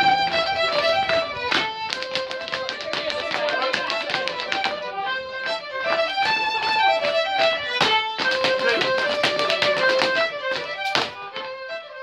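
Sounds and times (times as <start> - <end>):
dancers' feet tapping: 0.0 - 11.6
fiddle playing dance tune: 0.0 - 12.0.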